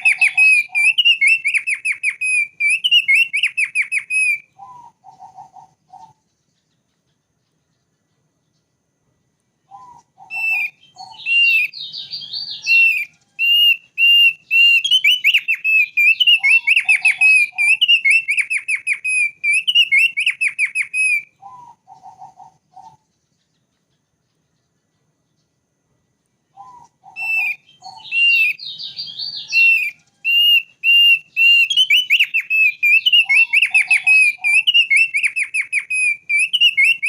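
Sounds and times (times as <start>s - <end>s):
bird whistling song: 0.0s - 8.7s, 9.6s - 25.6s, 26.5s - 37.0s.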